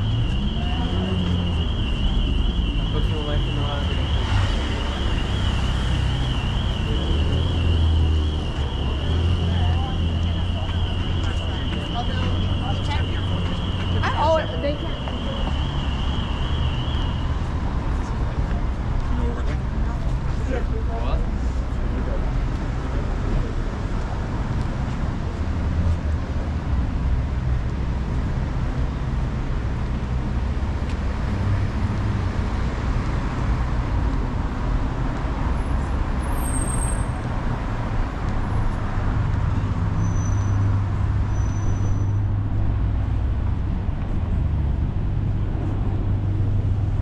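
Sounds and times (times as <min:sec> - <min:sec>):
passing cars: 0:00.0 - 0:47.0.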